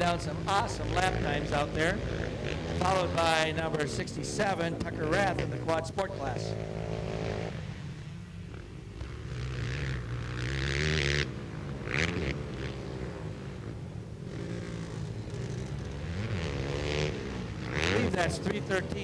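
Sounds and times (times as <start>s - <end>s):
quad engines racing: 0.0s - 19.0s.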